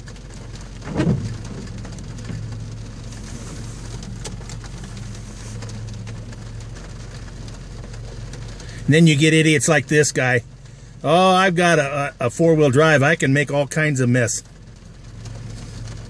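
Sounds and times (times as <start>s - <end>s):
engine hum: 0.0s - 16.0s
tyres washing through water: 0.0s - 16.0s.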